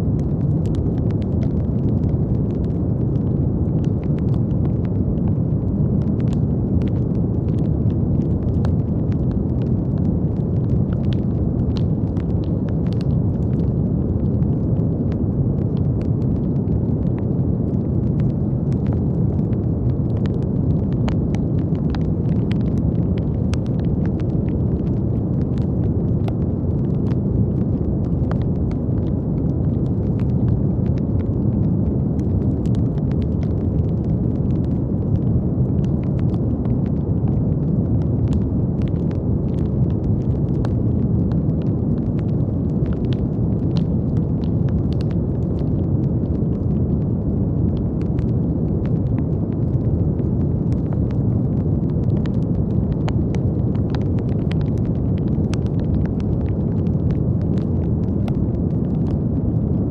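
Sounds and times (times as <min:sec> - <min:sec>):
brown noise rumbling hiss: 0:00.0 - 0:59.9
faint crackling clicks: 0:00.1 - 0:59.2.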